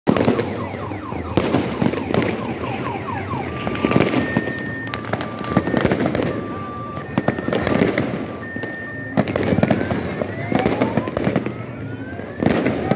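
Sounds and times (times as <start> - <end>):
electronic alarm tones: 0.1 - 11.1
fireworks bangs and crackling: 0.1 - 12.9.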